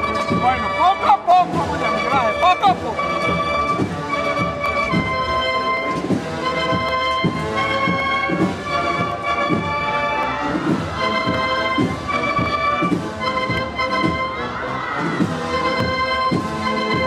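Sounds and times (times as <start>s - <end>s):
band playing slow processional march: 0.0s - 17.0s.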